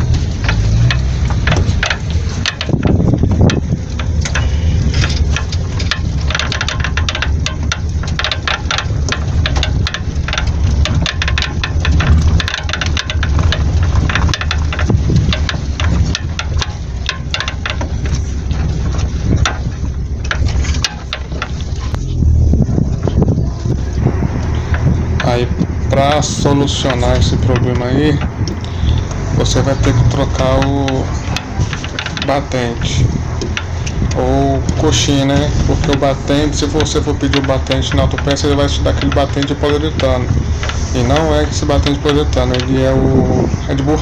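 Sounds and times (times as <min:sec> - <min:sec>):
rapid irregular knocking and clicking: 0:00.0 - 0:44.0
steady low rumble: 0:00.0 - 0:44.0.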